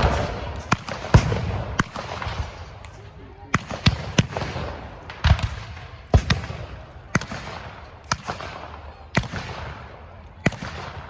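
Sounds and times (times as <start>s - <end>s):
blank gunshots with echo: 0.0s - 11.0s.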